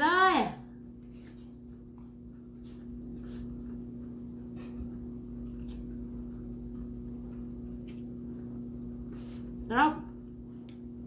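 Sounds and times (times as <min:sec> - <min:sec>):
steady low hum: 0:00.0 - 0:11.0
person chewing with wet smacks: 0:00.8 - 0:11.0.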